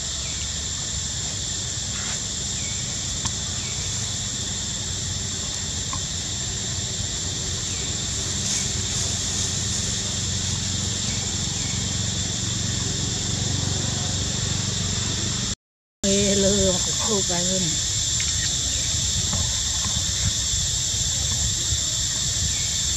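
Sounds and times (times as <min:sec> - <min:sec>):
insect chorus: 0:00.0 - 0:22.9.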